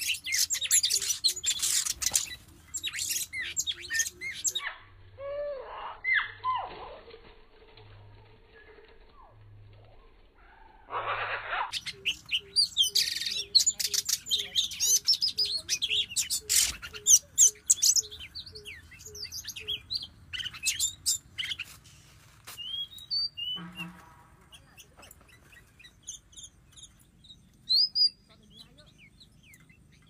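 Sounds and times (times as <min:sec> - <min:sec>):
bird song whistles and trills: 0:00.0 - 0:06.8, 0:08.5 - 0:21.8, 0:22.5 - 0:30.0.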